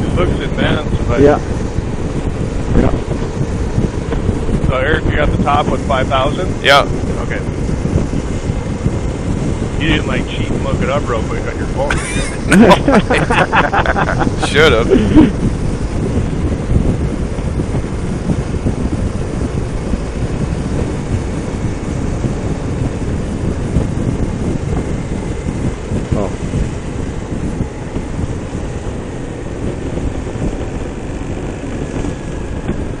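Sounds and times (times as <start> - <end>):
motorcycle engine and road noise: 0.0 - 33.0
wind buffeting microphone: 0.0 - 33.0.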